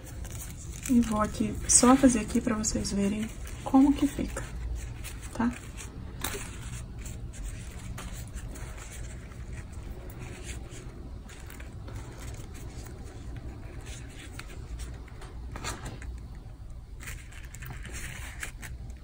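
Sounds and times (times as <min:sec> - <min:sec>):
low background hum: 0:00.0 - 0:19.0
ribbon rustling and scraping: 0:00.0 - 0:19.0.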